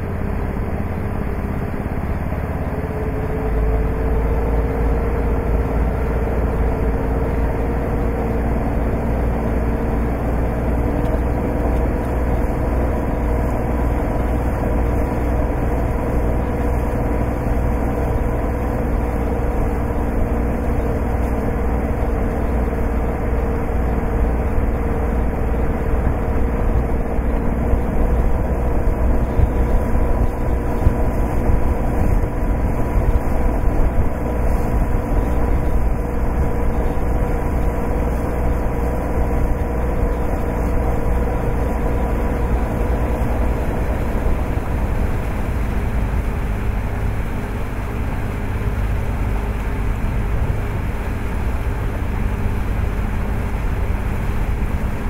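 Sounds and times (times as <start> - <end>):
low rumble: 0.0 - 55.0
water rushing along hull: 0.0 - 55.0
wind: 0.0 - 55.0.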